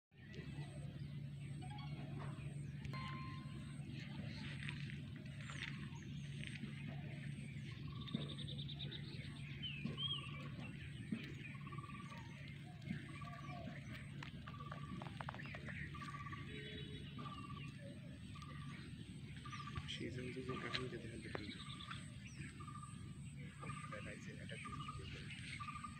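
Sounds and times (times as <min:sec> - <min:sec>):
steady low hum: 0:00.1 - 0:25.9
bird chirps: 0:00.2 - 0:25.9
bird trill: 0:00.3 - 0:25.9.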